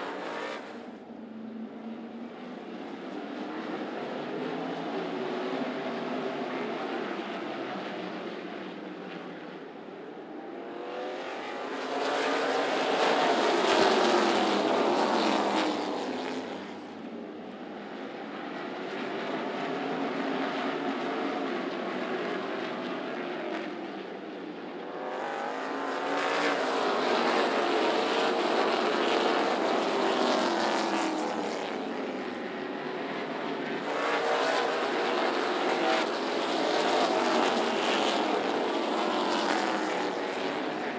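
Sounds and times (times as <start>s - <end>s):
race car engines passing: 0.0s - 1.0s, 1.8s - 9.6s, 10.2s - 40.9s.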